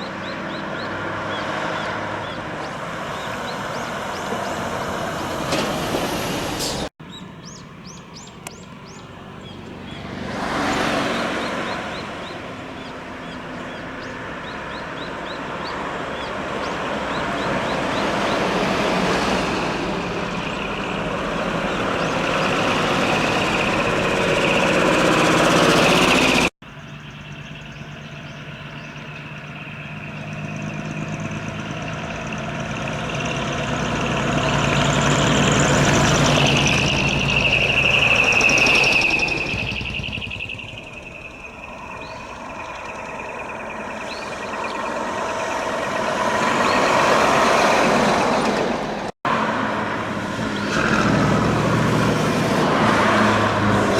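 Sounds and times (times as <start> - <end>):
loud diesel trucks driving past: 0.0 - 53.9.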